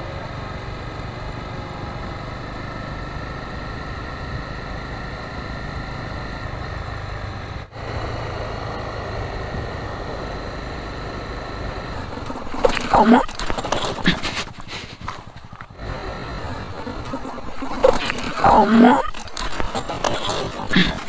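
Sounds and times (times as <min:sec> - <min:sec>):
wind and road noise: 0:00.0 - 0:18.5
motorcycle engine running: 0:00.0 - 0:21.0.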